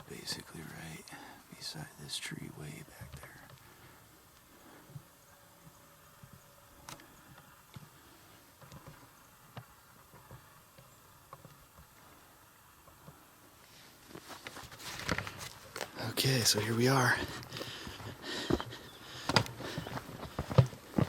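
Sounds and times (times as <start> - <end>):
faint ticks and rustles: 0.0 - 21.0.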